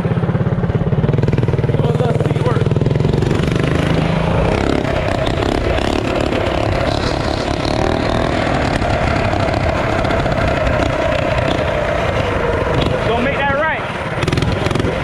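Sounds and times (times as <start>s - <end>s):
small engine at high revs: 1.5s - 15.0s.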